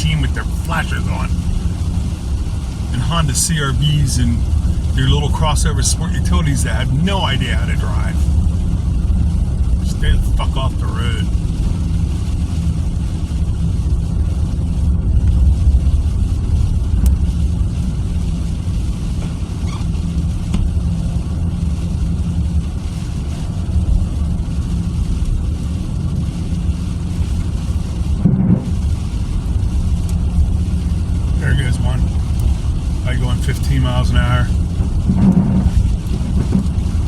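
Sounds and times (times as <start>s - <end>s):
low engine drone: 0.0s - 37.0s
tyre and road rumble: 0.0s - 37.0s.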